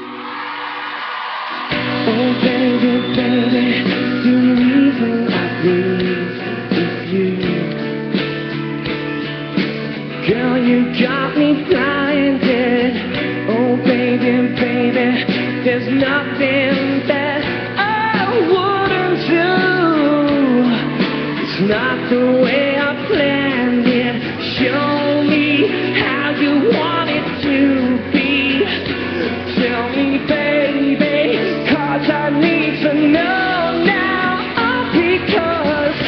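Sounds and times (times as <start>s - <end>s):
pop song with singing and guitar: 0.0s - 36.0s.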